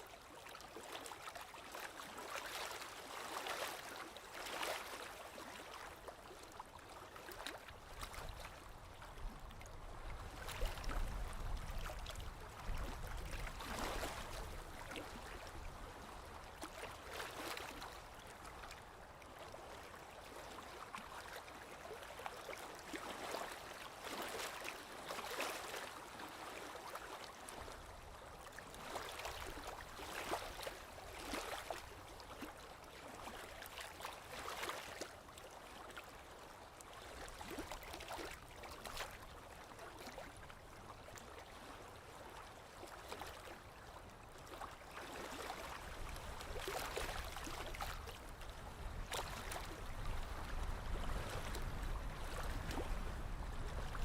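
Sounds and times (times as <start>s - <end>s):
small waves lapping at shoreline: 0.0s - 54.0s.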